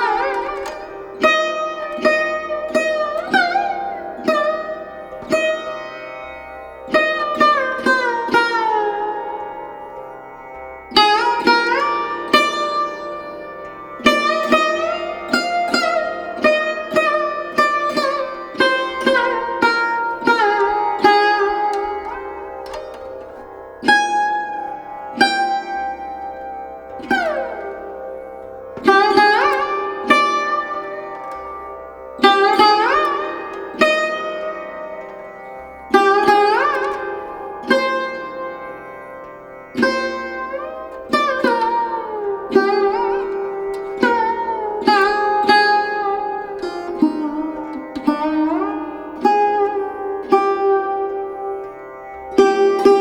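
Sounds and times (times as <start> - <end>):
plucked string instrument: 0.0 - 53.0.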